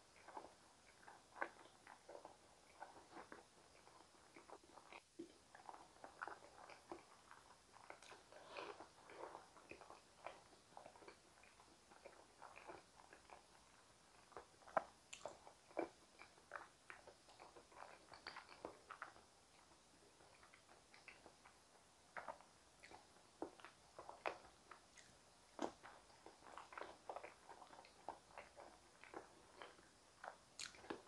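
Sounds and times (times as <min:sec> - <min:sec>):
soft chewing and mouth sounds: 0:00.0 - 0:31.0.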